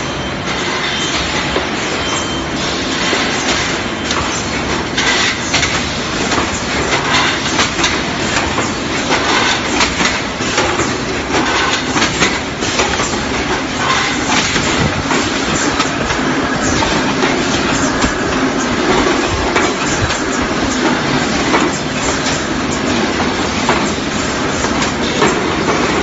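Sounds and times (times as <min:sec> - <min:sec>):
machinery clatter: 0:00.0 - 0:26.0.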